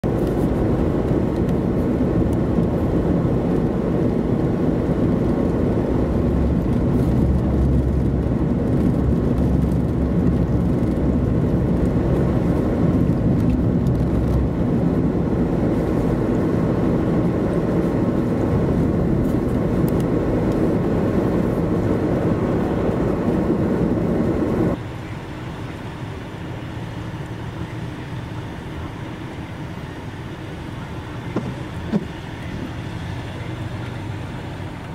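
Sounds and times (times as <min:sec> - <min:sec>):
vehicle road noise and engine hum: 0:00.0 - 0:34.9.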